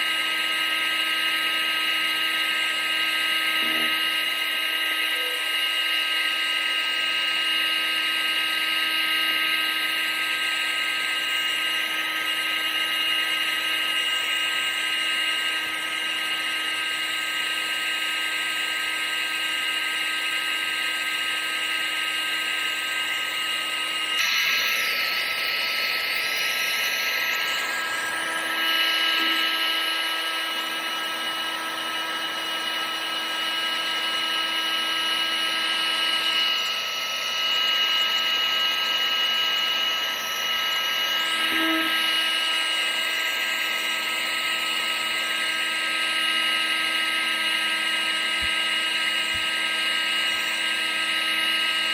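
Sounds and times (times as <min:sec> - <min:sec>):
vacuum cleaner motor whine: 0:00.0 - 0:51.9.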